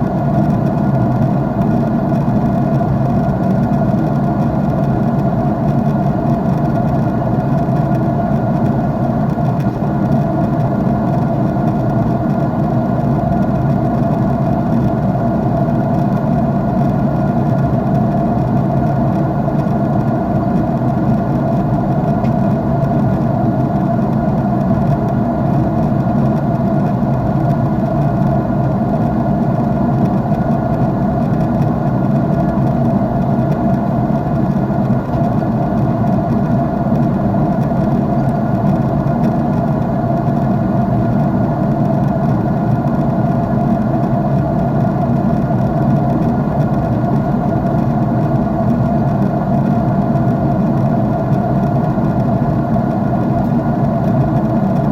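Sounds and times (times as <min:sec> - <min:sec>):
jet engine noise in cabin: 0:00.0 - 0:54.9.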